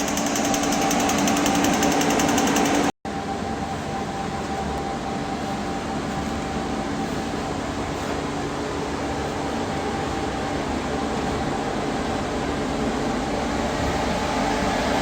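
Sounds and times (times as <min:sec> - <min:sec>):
fan whooshing hum: 0:00.0 - 0:15.0.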